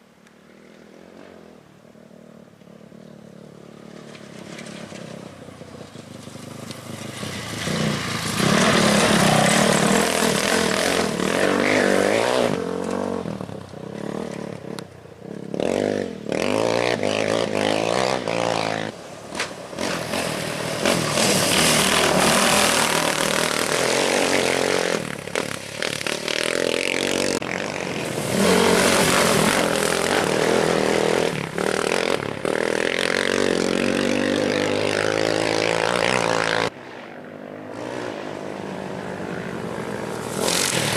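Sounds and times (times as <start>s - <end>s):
motorcycles revving past: 0.5s - 40.9s.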